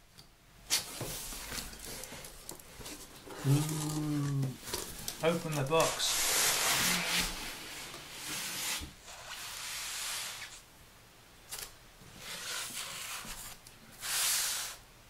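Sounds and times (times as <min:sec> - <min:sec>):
cardboard rustling and scraping: 0:00.7 - 0:10.5, 0:11.5 - 0:14.8.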